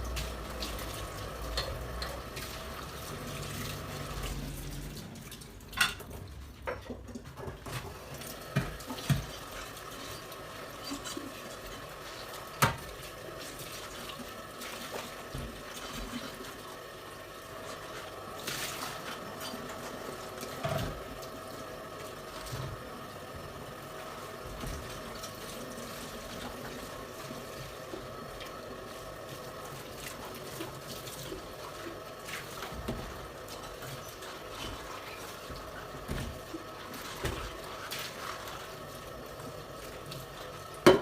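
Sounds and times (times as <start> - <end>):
water running: 0.0 - 41.0.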